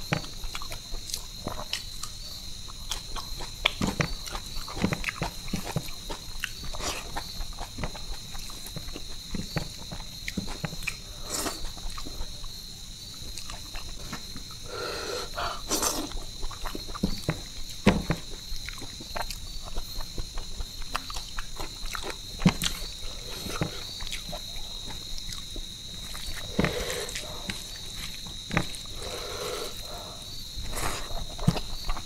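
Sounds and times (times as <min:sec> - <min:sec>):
wet chewing and lip smacks: 0:00.2 - 0:14.6, 0:15.3 - 0:32.0.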